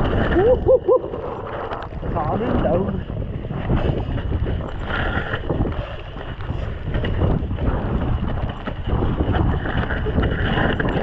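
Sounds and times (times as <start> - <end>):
mountain bike rumbling and rattling: 0.0 - 11.0
wind buffeting microphone: 0.0 - 11.0.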